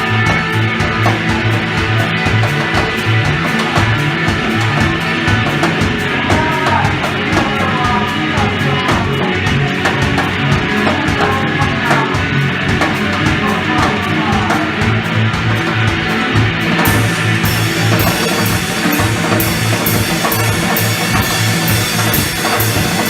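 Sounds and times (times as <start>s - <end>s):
rock band playing live: 0.0s - 23.0s
steady drum beat: 0.0s - 23.0s.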